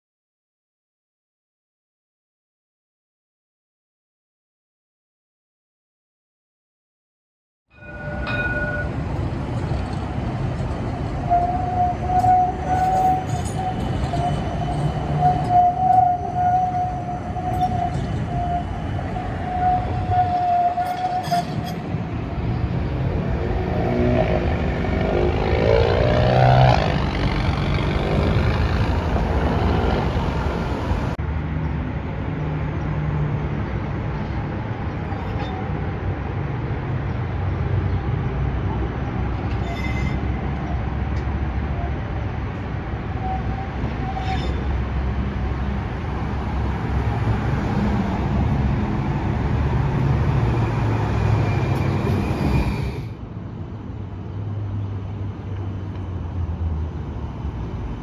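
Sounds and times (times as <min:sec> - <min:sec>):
city traffic rumble: 0:07.7 - 0:58.0
streetcar approaching: 0:07.7 - 0:58.0
streetcar whine: 0:07.7 - 0:58.0.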